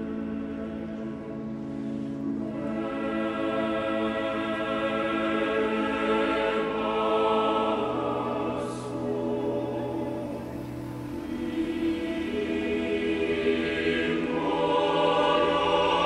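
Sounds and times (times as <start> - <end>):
choir singing long-held chords: 0.0 - 16.0.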